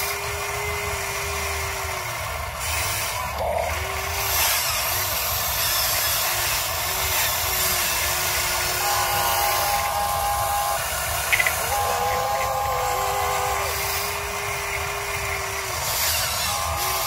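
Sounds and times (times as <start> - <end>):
small electric motors whining: 0.0 - 17.0
steady hiss: 0.0 - 17.0.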